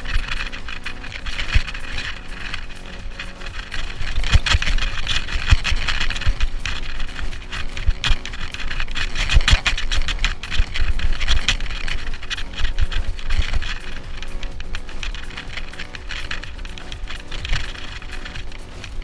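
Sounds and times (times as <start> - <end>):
bike tyres crunching on dirt: 0.0 - 19.0.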